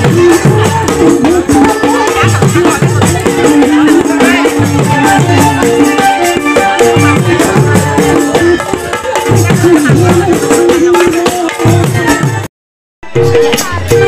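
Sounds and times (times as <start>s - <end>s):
person singing: 0.0s - 12.5s
hand drum beating: 0.0s - 14.0s
keyboard: 0.0s - 14.0s
plucked stringed instrument: 0.0s - 14.0s.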